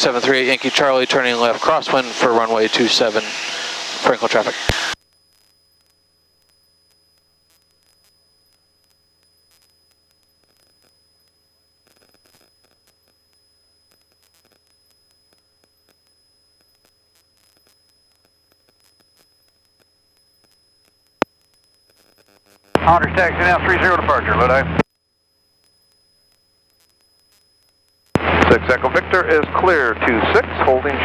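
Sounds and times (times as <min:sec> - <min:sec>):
faint radio hiss: 0:00.0 - 0:31.0.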